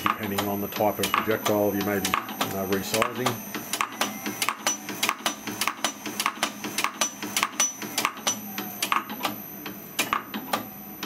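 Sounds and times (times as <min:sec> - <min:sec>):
machine high whine: 0:00.0 - 0:11.0.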